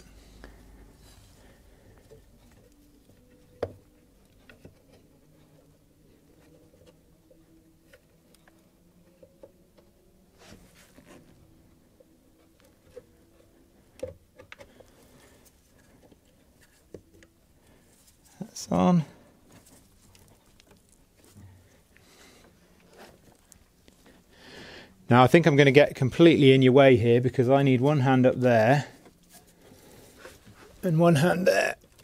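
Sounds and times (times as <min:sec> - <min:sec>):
hands rustling with parts: 0:00.0 - 0:24.3, 0:27.5 - 0:32.0.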